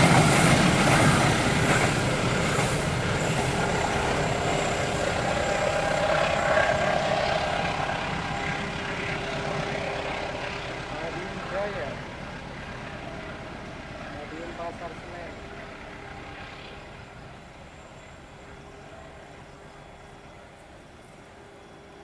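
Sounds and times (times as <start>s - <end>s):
passing train running noise: 0.0s - 22.0s
faint steady tone: 2.8s - 22.0s.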